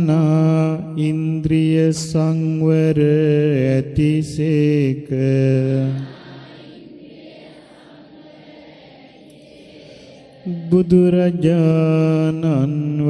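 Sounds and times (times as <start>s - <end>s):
monk chanting: 0.0s - 7.0s, 9.4s - 13.0s.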